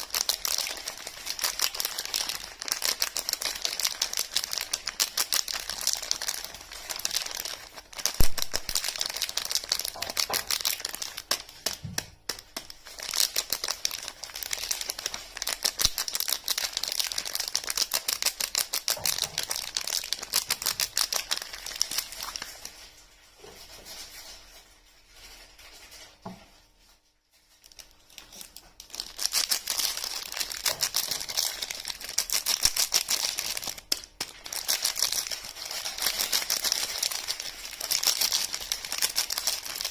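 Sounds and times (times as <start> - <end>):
wrapper crinkling and tearing: 0.0 - 39.9.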